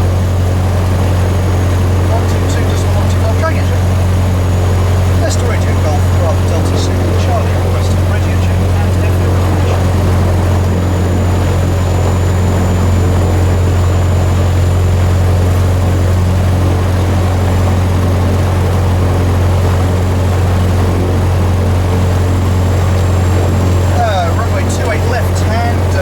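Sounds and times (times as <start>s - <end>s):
aircraft engine and propeller droning: 0.0s - 26.0s.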